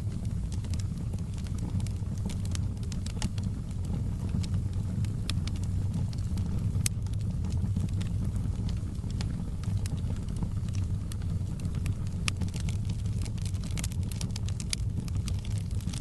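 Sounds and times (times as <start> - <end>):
fireplace fire crackling: 0.0 - 16.0
low rumble: 0.0 - 16.0.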